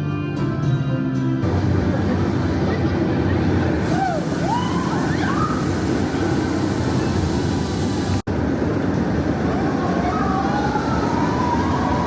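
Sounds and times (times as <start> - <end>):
crowd and machinery din: 1.4 - 12.0.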